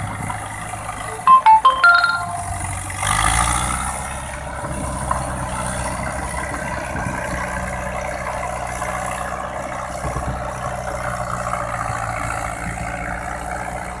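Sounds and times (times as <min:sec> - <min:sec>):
tractor diesel engine under load: 0:00.0 - 0:01.1, 0:02.6 - 0:14.0.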